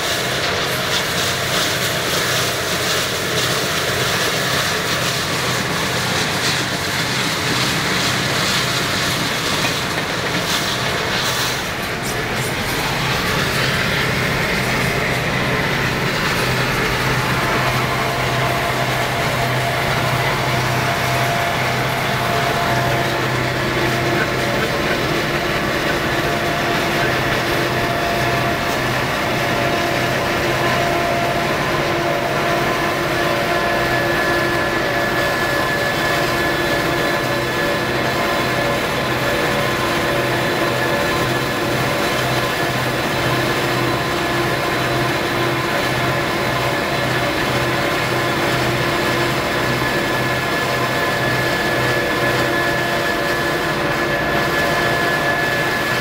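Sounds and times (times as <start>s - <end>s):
freight train wheels rumbling: 0.0s - 56.0s
low steady drone: 0.0s - 56.0s.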